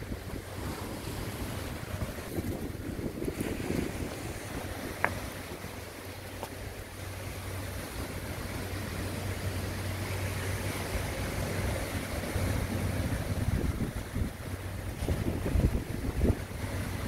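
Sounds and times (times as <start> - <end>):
wind buffeting microphone: 0.0 - 7.1, 8.0 - 17.0
surf washing: 0.0 - 17.0.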